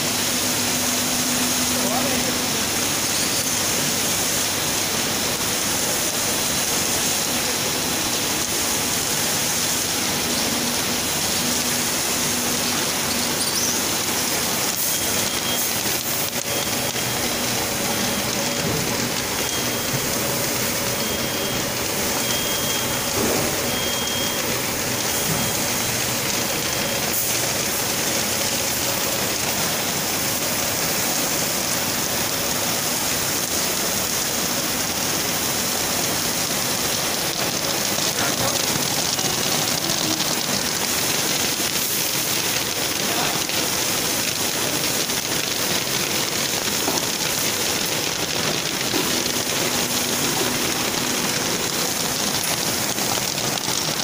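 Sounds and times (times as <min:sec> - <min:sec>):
rain-like machinery noise: 0:00.0 - 0:54.0.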